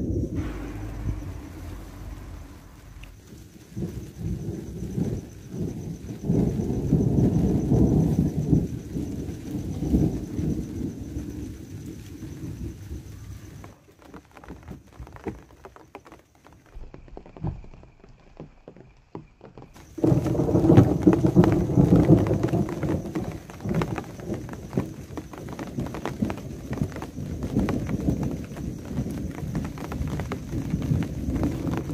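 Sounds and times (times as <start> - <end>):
rain pattering and dripping: 0.0 - 31.9.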